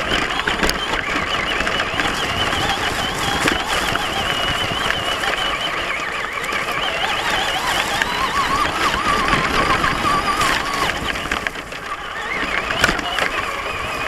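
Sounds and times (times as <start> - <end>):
electric motor whining: 0.0 - 14.0
truck driving across grass: 0.0 - 14.0.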